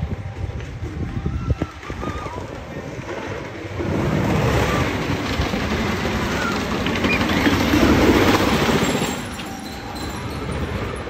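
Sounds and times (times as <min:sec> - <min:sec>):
roller coaster train on wooden track: 0:00.0 - 0:11.0.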